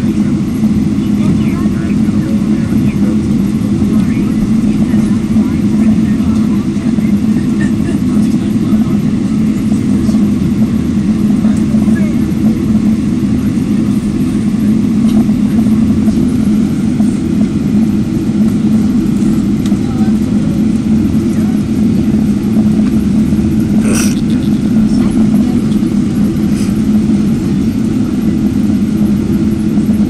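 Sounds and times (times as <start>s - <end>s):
airliner engine hum: 0.0s - 30.0s.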